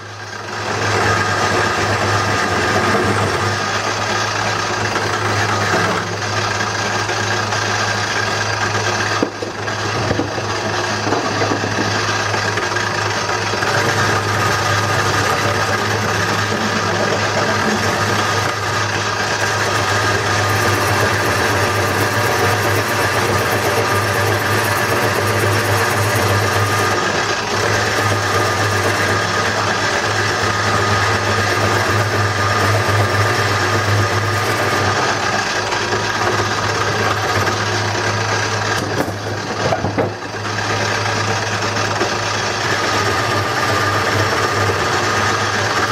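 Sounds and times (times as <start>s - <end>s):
wood lathe motor hum: 0.0s - 45.9s
turning tool scraping wood: 0.5s - 45.9s.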